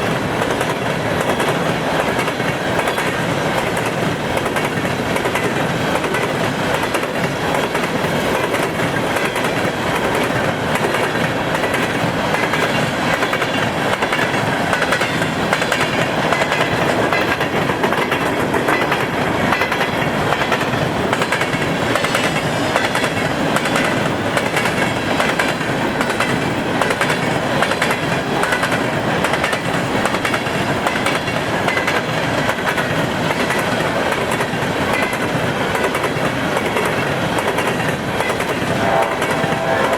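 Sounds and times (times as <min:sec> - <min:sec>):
wheels clicking over rail joints: 0:00.0 - 0:38.7
freight train rolling past: 0:00.0 - 0:39.9.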